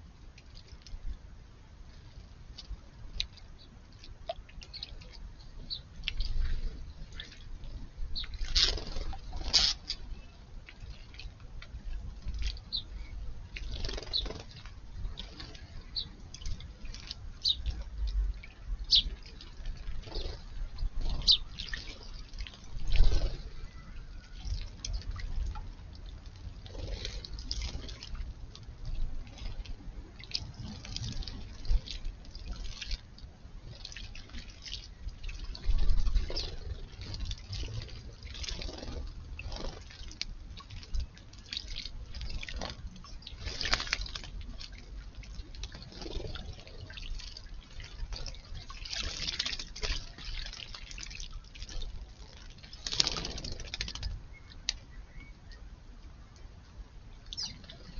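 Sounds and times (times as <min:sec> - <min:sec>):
water splashing and dripping: 0:02.5 - 0:54.9.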